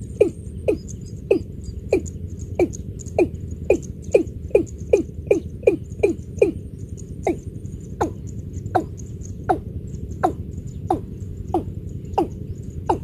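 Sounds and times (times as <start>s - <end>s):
bird calling hollow notes: 0.0s - 13.0s.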